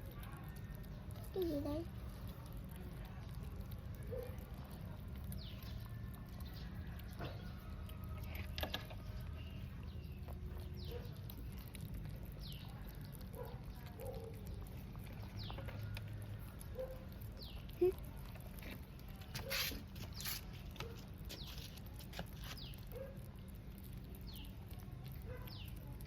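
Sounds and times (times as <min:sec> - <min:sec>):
cats licking and chewing: 0:00.0 - 0:26.0.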